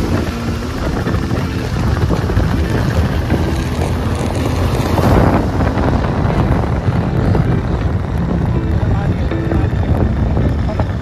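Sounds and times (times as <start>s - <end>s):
motorcycle engine: 0.0s - 11.0s
road noise: 0.0s - 11.0s
wind rushing over microphone: 0.0s - 11.0s.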